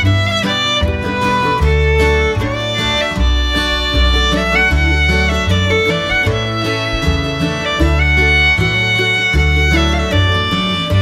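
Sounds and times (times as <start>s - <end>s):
fiddle tune: 0.0s - 11.0s
guitar: 0.0s - 11.0s
low bass line: 0.0s - 11.0s.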